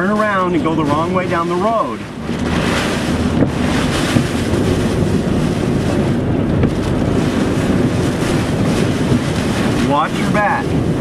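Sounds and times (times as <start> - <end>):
heavy rain on a car: 0.0 - 11.0
strong wind: 0.0 - 11.0
wind rumbling on microphone: 0.0 - 11.0.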